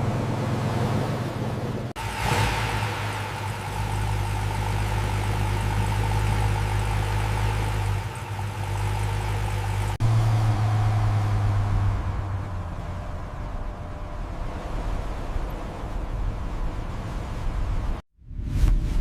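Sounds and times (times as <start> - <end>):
car engine idling: 0.0 - 16.3.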